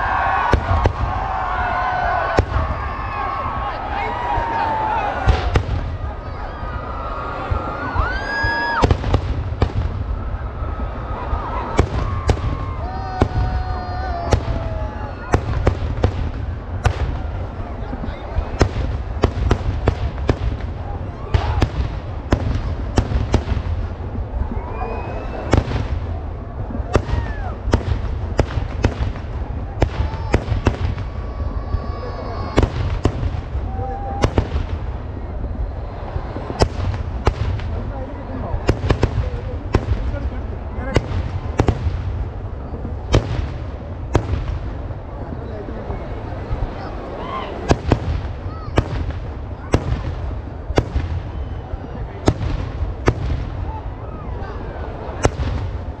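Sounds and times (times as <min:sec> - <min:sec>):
continuous low rumble: 0:00.0 - 0:56.0
fireworks bangs: 0:00.0 - 0:56.0.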